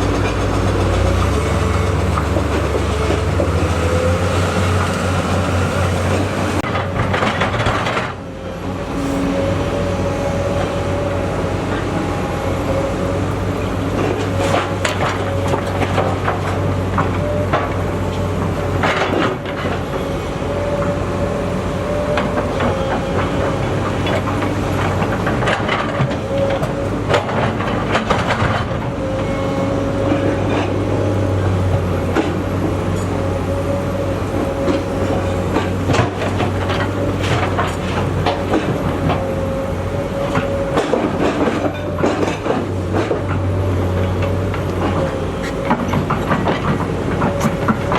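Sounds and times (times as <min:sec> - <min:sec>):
excavator diesel engine drone: 0:00.0 - 0:47.9
hydraulic whine: 0:00.0 - 0:47.9.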